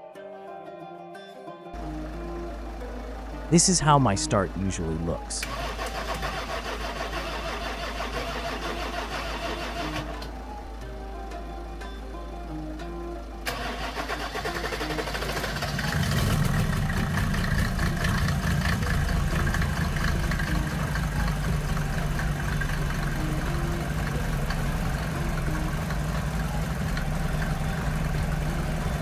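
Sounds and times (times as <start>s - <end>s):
diesel engine cranking and starting: 1.8s - 29.0s.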